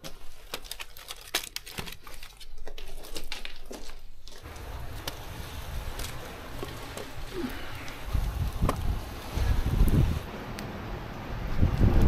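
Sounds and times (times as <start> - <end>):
dry sticks crackling and snapping: 0.0 - 12.0.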